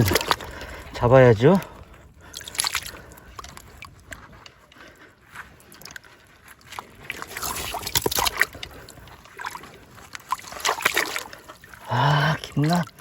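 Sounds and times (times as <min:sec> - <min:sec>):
hands stirring wet mud and water: 0:00.0 - 0:13.0.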